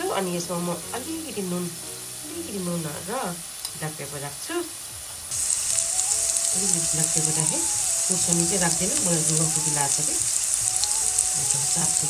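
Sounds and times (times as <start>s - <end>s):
greens sizzling in a pan: 0.0s - 12.0s.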